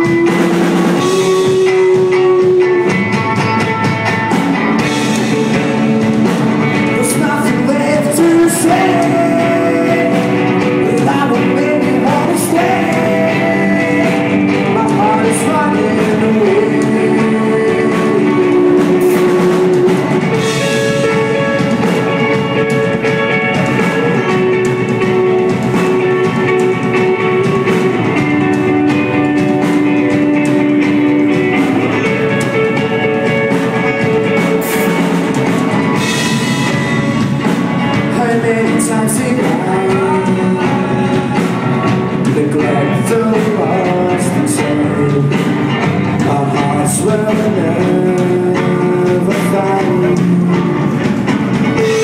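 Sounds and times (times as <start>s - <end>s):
man singing: 0.0s - 3.2s, 4.8s - 30.4s, 35.8s - 52.0s
drum kit: 0.0s - 52.0s
electric guitar: 0.0s - 52.0s.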